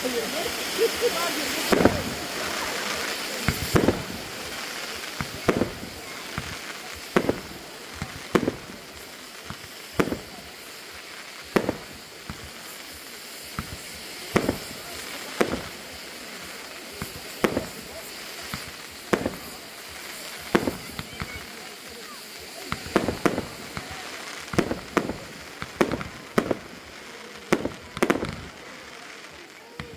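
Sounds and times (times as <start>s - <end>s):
steady rushing hiss: 0.0s - 29.9s
firework shells bursting: 0.3s - 29.9s.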